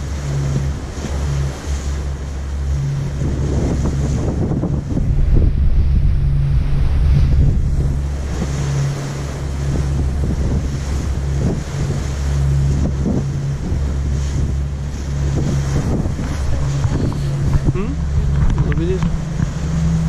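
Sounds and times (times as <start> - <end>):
ferry engines droning: 0.0 - 20.0
sea water rushing past hull: 0.0 - 20.0
wind buffeting microphone: 0.0 - 20.0.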